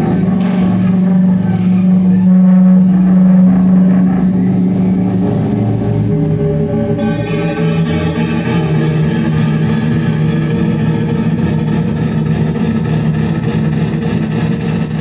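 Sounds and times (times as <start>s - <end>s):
higher music notes: 0.0s - 15.0s
low droning music chord: 0.0s - 15.0s.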